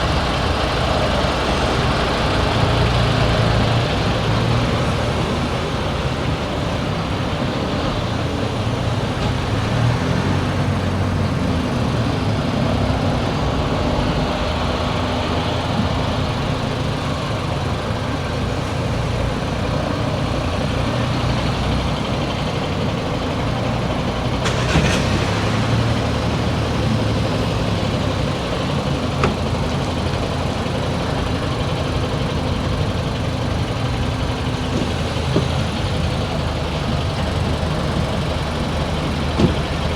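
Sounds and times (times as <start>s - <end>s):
car engine hum and road noise: 0.0s - 39.9s.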